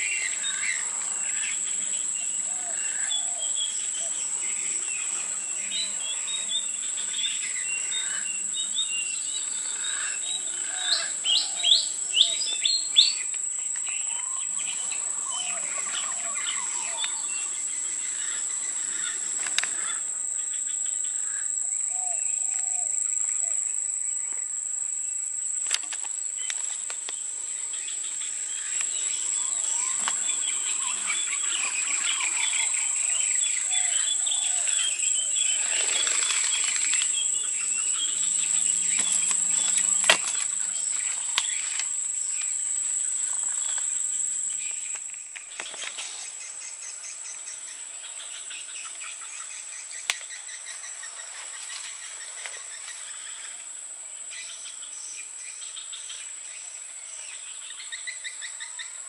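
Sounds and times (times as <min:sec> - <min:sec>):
birds chattering: 0:00.0 - 0:24.9, 0:25.5 - 0:53.6
insects droning: 0:00.0 - 0:59.0.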